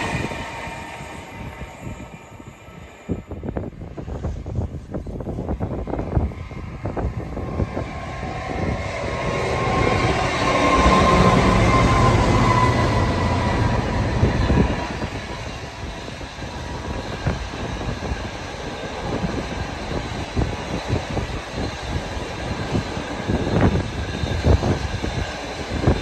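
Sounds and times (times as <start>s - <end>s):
freight locomotive passing: 0.0s - 26.0s.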